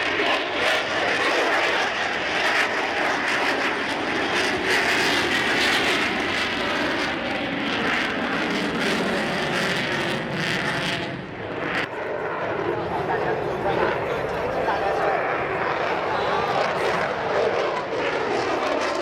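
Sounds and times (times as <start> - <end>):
aircraft engine flying past: 0.0 - 19.0.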